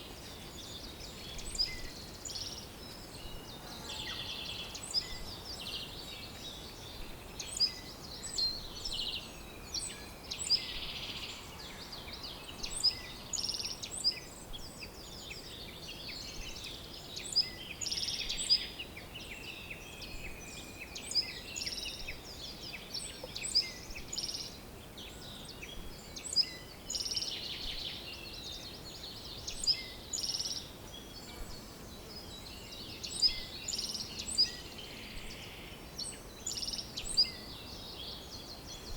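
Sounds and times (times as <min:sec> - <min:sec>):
birds chirping and singing: 0:00.0 - 0:38.9
faint outdoor hiss: 0:00.0 - 0:38.9.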